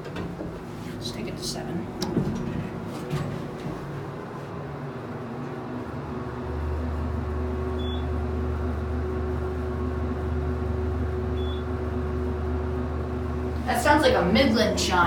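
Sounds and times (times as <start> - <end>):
elevator low hum: 0.0 - 15.0.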